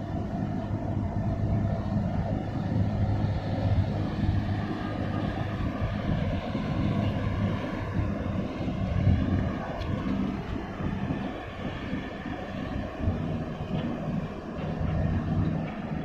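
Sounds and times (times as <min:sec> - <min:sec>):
diesel engine drone: 0:00.0 - 0:16.0
wind buffeting microphone: 0:00.0 - 0:16.0.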